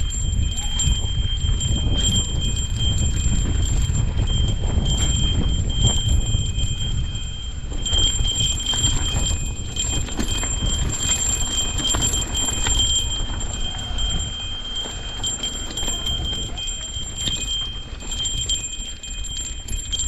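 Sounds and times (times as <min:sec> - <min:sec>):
bike rattling clicks and knocks: 0:00.0 - 0:20.0
high ringing whine: 0:00.0 - 0:20.0
wind rumble on microphone: 0:00.0 - 0:20.0.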